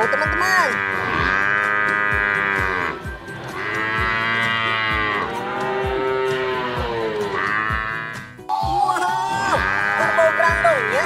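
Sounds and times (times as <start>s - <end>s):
cow mooing: 0.0s - 8.4s, 9.5s - 11.0s
background music with steady beat: 0.0s - 11.0s.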